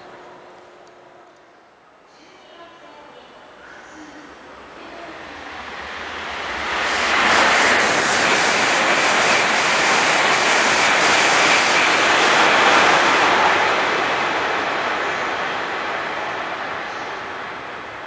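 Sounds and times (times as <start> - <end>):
high-speed train passing: 0.0 - 2.2, 3.0 - 18.0.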